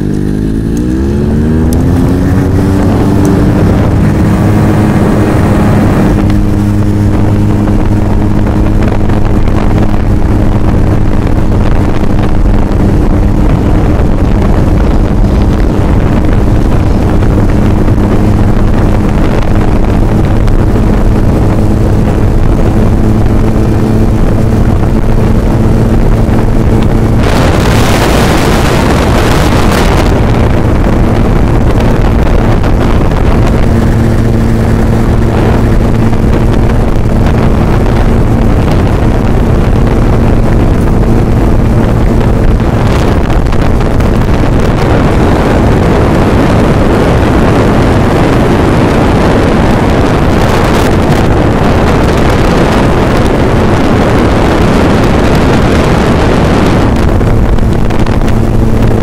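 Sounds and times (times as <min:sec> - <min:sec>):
scooter engine running: 0:00.0 - 0:59.0
wind rushing over microphone: 0:00.0 - 0:59.0.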